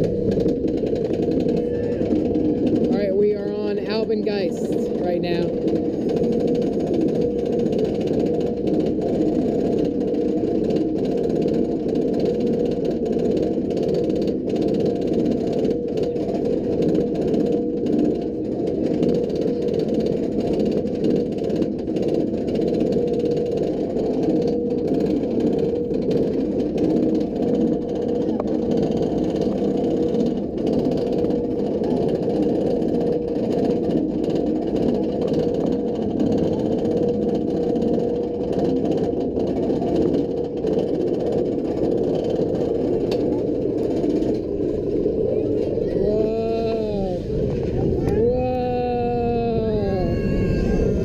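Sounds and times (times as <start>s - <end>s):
roller coaster chain lift rattle: 0.0s - 51.0s.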